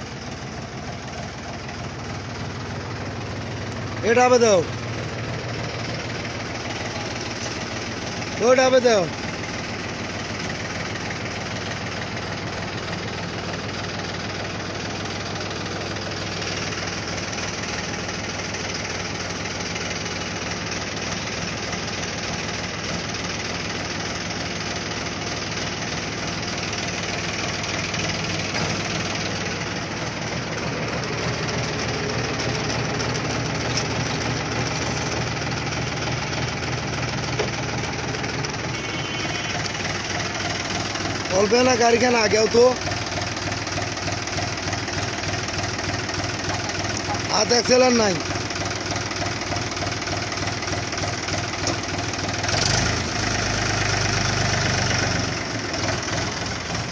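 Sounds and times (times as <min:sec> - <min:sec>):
tractor diesel engine idling: 0:00.0 - 0:56.9.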